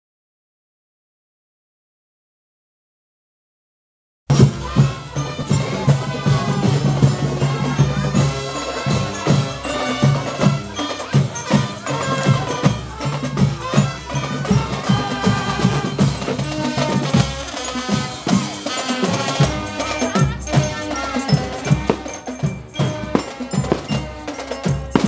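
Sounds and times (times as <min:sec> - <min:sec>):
drums beating: 0:04.3 - 0:25.0
marching band playing: 0:04.3 - 0:25.0.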